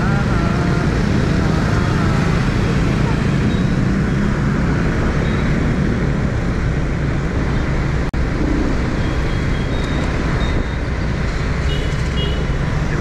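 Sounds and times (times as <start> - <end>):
street traffic: 0.0 - 13.0
wind rumble on microphone: 0.0 - 13.0.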